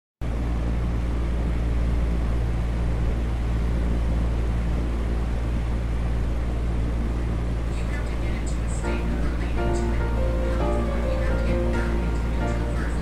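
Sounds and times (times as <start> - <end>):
low rumble with hum: 0.2 - 13.0.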